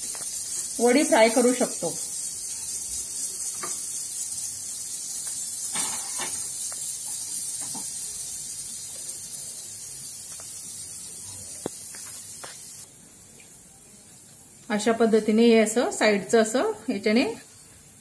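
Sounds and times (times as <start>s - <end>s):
oil hissing on hot pan: 0.0s - 18.0s.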